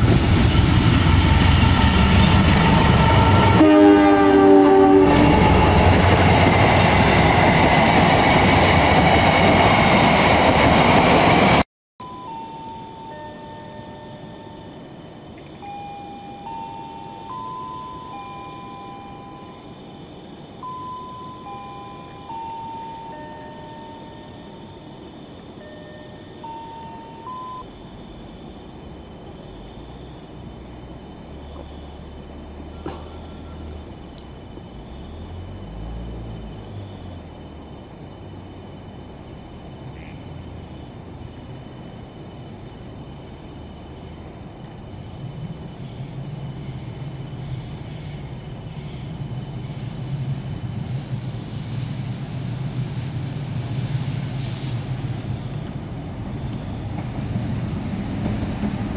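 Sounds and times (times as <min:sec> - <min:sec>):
diesel locomotive engine rumble: 0:00.0 - 0:58.9
insects chirping: 0:00.0 - 0:58.9.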